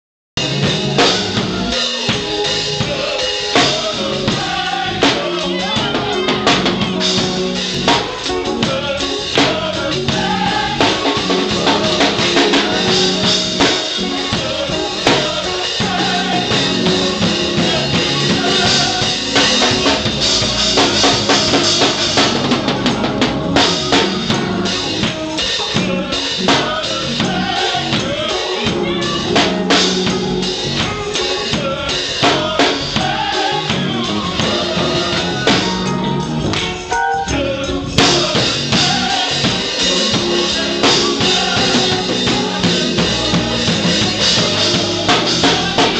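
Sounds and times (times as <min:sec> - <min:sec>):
choir singing gospel: 0:00.4 - 0:45.9
drum kit: 0:00.4 - 0:45.9.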